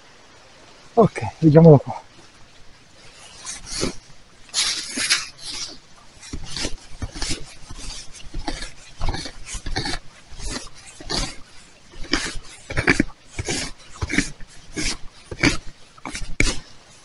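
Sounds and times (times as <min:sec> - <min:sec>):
hand tool scraping soil and leaves: 0:03.0 - 0:17.0.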